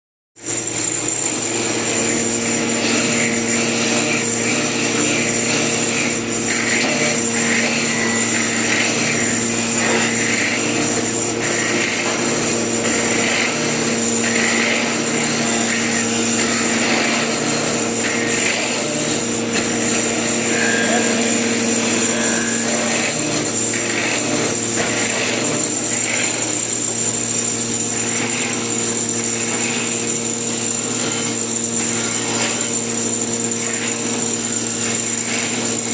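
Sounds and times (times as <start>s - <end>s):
wood being cut: 0.4s - 35.9s
woodworking machine motor running: 0.4s - 35.9s.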